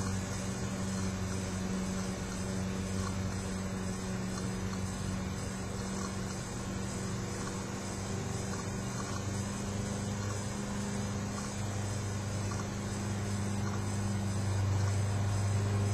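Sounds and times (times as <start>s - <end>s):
broad hiss: 0.0s - 15.9s
steady low hum: 0.0s - 15.9s.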